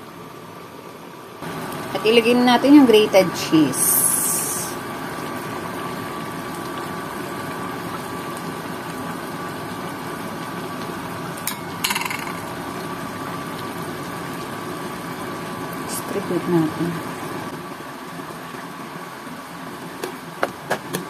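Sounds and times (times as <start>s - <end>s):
stew bubbling in a pan: 3.4s - 21.0s.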